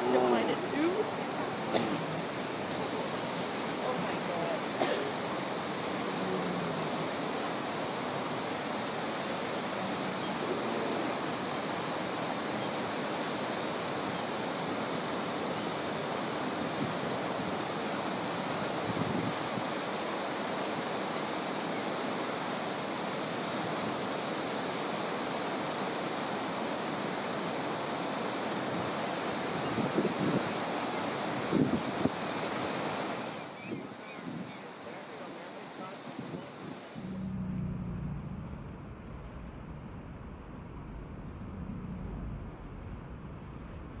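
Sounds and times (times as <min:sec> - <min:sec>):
river flowing over gravel: 0:00.0 - 0:37.4.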